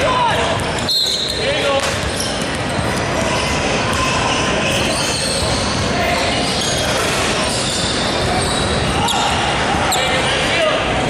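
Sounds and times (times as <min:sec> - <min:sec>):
crowd chatter echoing: 0:00.0 - 0:11.0.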